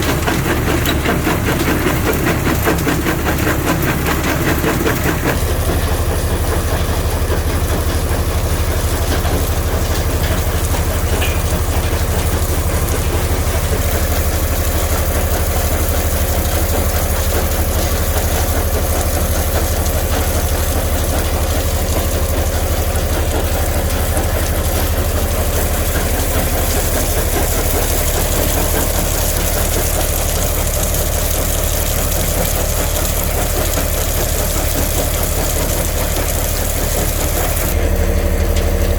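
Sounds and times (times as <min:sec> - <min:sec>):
low-pitched machinery hum: 0:00.0 - 0:38.9
rock crusher grinding: 0:00.0 - 0:38.9.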